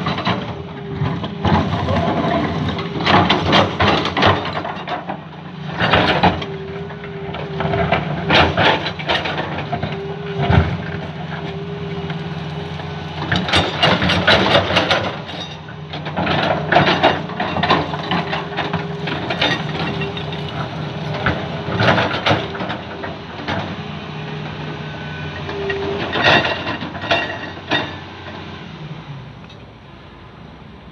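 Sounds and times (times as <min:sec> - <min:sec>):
excavator diesel engine drone: 0:00.0 - 0:30.9.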